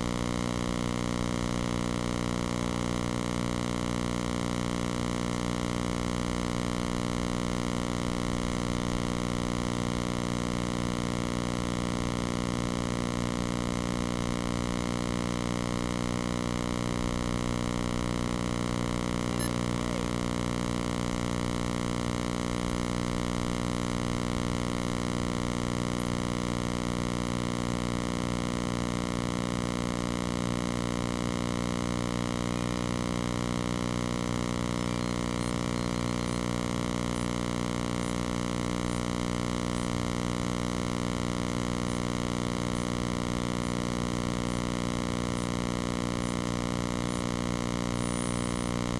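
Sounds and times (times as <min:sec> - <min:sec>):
steady electrical hum: 0:00.0 - 0:48.9.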